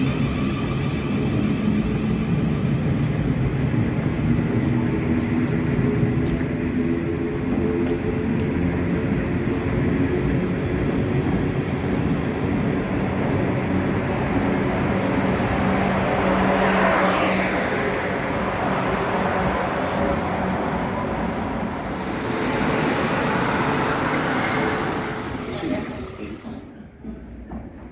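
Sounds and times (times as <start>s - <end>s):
train rumbling past: 0.0s - 27.8s.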